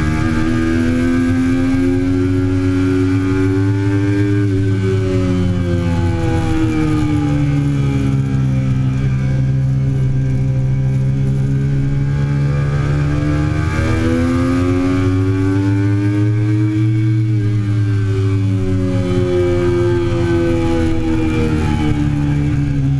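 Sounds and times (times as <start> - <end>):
motorcycle engine at speed: 0.0 - 22.9.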